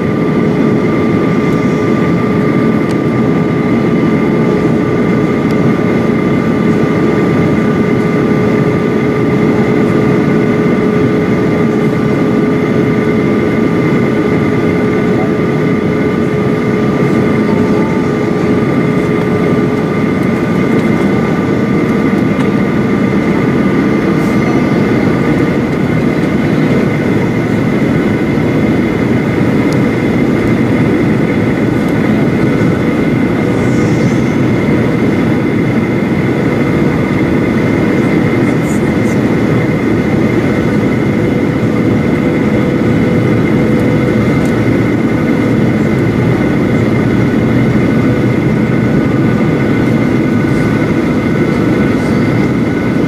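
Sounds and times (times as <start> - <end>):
airplane cabin engine rush: 0.0 - 53.0
steady whining tones: 0.0 - 53.0.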